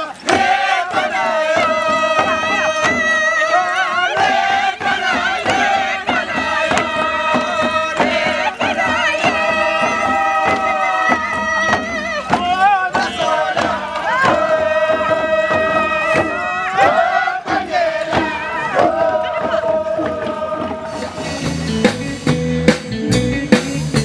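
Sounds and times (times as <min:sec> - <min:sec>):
group of voices chanting: 0:00.0 - 0:21.4
hand drum beats: 0:00.0 - 0:24.0.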